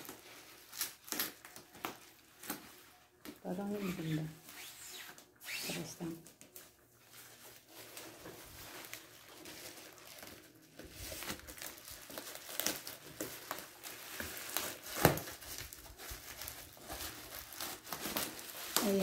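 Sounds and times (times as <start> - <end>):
plastic wrapping crinkling: 0.0 - 19.0.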